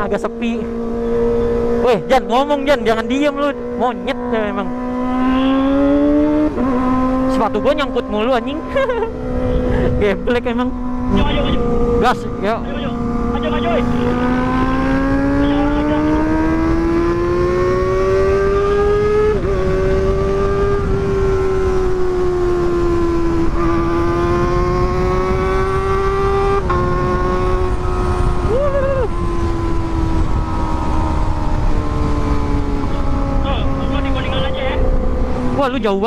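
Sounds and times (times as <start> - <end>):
motorcycle engine at high revs: 0.0 - 36.0
wind and road noise: 0.0 - 36.0.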